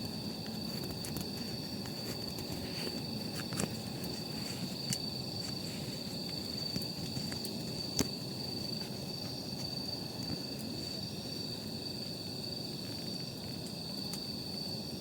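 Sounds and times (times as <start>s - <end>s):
campfire crackling and popping: 0.0s - 10.8s, 11.4s - 15.0s
insect trill: 0.0s - 15.0s.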